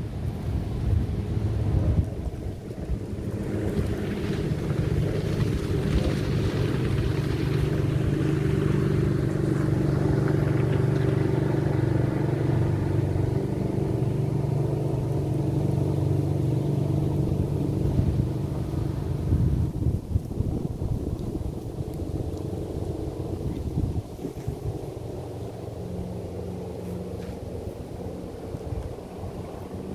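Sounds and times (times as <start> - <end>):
speedboat engine droning: 0.0 - 29.9.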